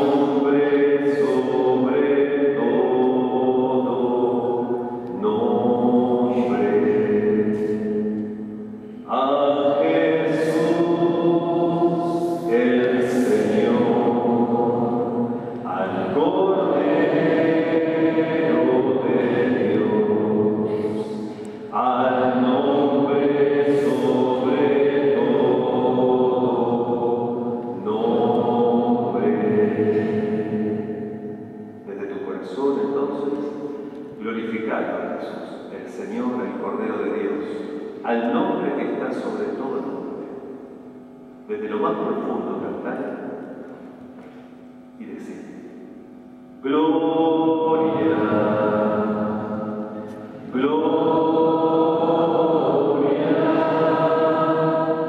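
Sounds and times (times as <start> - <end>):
choir singing a hymn: 0.0 - 39.3, 46.6 - 55.0.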